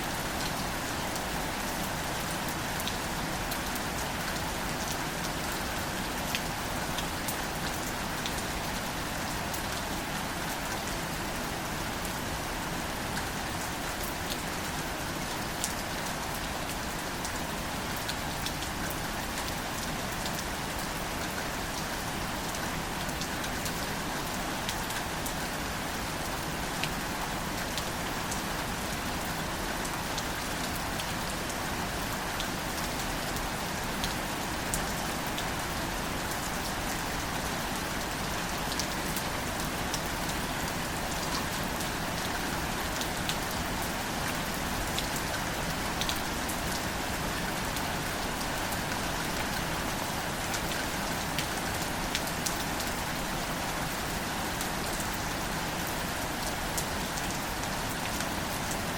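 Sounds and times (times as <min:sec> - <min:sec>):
gentle rain on foliage: 0:00.0 - 0:58.9.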